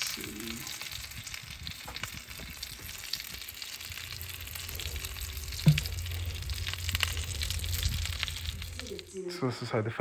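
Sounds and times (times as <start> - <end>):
food sizzling on grill: 0.0 - 10.0
low rumble: 1.0 - 10.0.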